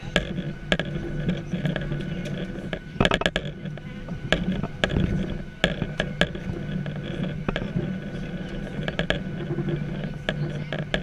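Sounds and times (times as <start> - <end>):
aircraft cabin hum: 0.0 - 11.0
sharp clicks and knocks: 0.0 - 11.0.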